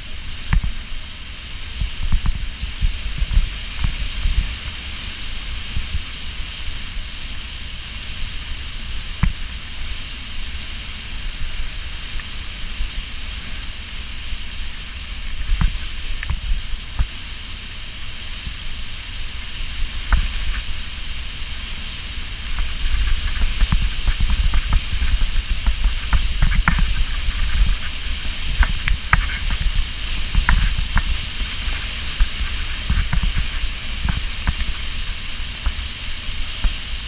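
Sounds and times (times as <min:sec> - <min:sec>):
bike tyres on dirt trail: 0:00.0 - 0:37.0
wind rushing on microphone: 0:00.0 - 0:37.0.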